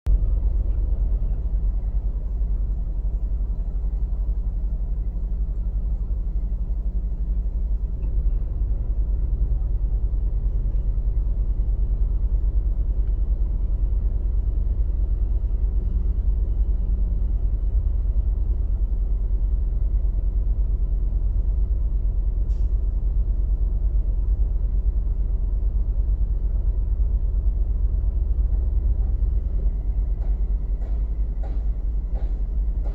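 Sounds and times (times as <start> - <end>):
diesel engine rumbling: 0.1 - 32.9.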